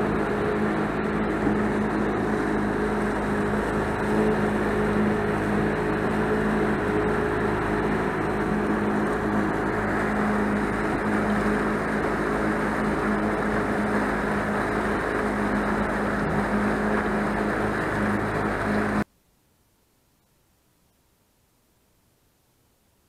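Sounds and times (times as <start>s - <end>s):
motorboat engine humming: 0.0s - 19.1s
water rushing: 0.0s - 19.1s.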